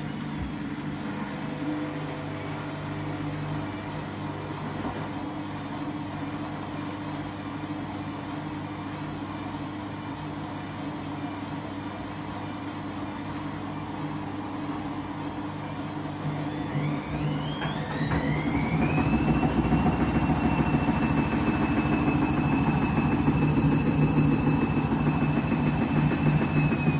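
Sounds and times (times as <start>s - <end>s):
washing machine spinning: 0.0s - 26.9s.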